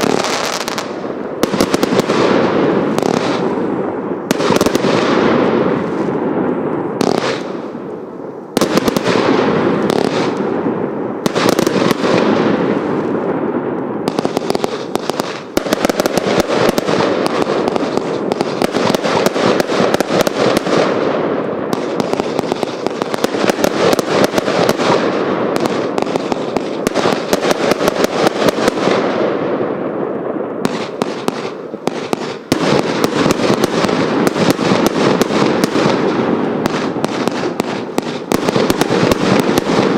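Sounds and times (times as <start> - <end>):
firework barrage crackling: 0.0 - 39.9.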